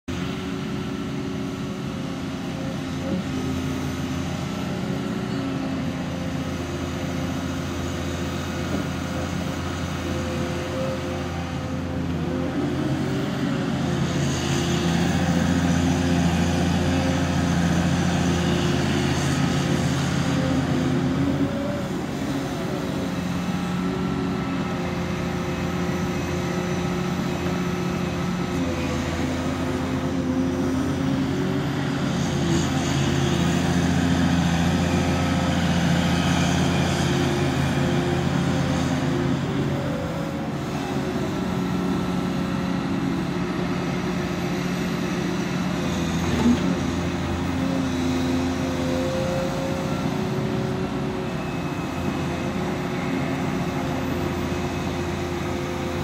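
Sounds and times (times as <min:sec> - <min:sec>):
excavator diesel engine running: 0:00.1 - 0:56.0.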